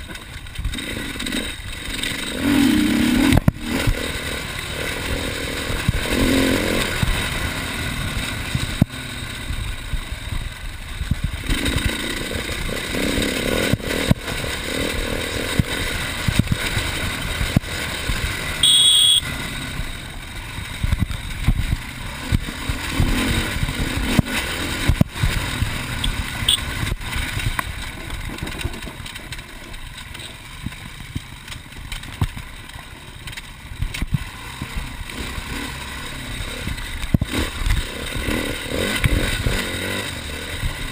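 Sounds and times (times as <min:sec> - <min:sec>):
bike rattling and knocking: 0:00.0 - 0:18.7, 0:19.6 - 0:40.9
motorcycle engine revving: 0:00.0 - 0:40.9.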